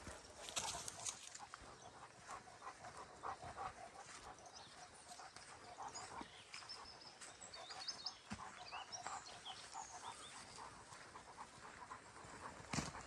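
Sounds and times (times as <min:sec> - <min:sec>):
birds chirping: 0:00.0 - 0:13.0
dog panting: 0:00.0 - 0:13.0.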